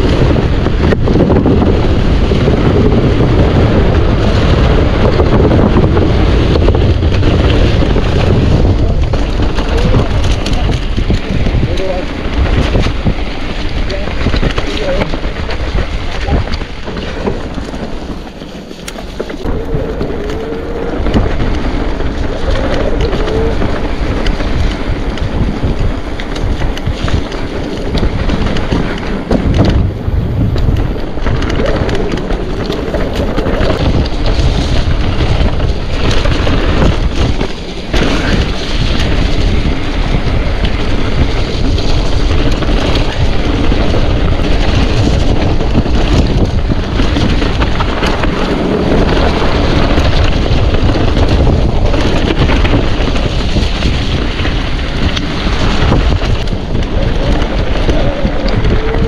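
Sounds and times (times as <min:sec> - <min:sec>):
bike knocks and rattles: 0:00.0 - 0:59.0
bike tyres rumbling on rough trail: 0:00.0 - 0:59.0
wind buffeting microphone: 0:00.0 - 0:59.0.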